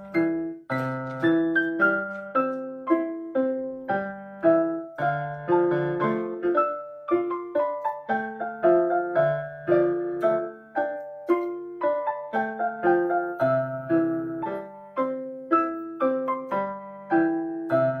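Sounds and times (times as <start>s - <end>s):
digital piano melody: 0.0s - 18.0s.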